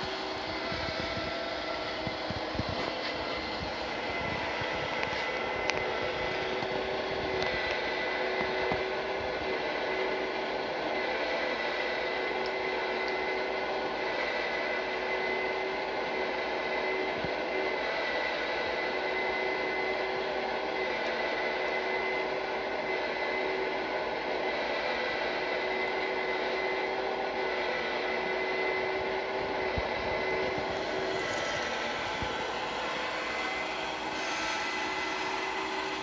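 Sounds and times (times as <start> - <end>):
model train motor whining: 0.0 - 36.0.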